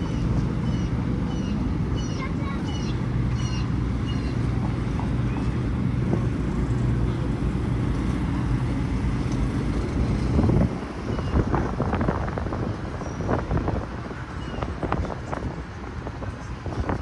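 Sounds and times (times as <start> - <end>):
constant low hum: 0.0 - 17.0
low urban rumble: 0.0 - 17.0.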